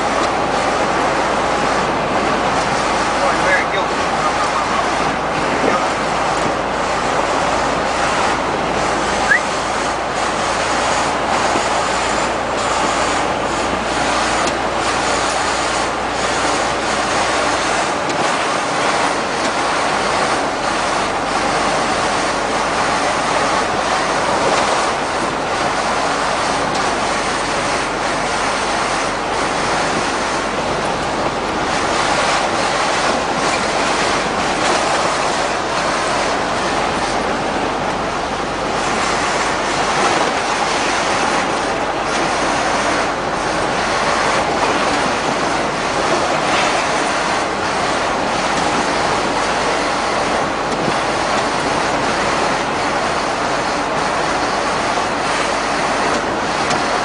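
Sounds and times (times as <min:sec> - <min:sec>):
heavy trucks passing on highway: 0:00.0 - 0:57.0
wind on microphone: 0:03.9 - 0:57.0.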